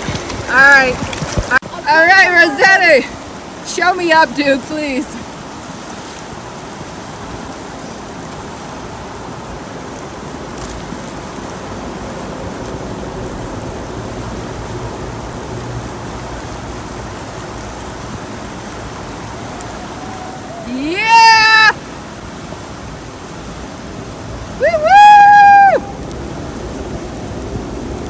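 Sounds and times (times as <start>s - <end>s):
river water flowing: 0.0s - 28.0s
wind: 0.0s - 28.0s.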